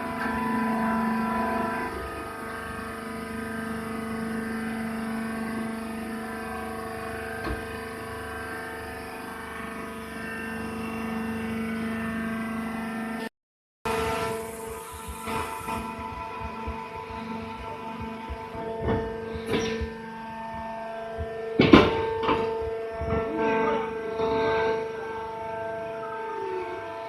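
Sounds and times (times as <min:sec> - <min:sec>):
hydraulic baler motor humming: 0:00.0 - 0:13.3, 0:13.9 - 0:27.0.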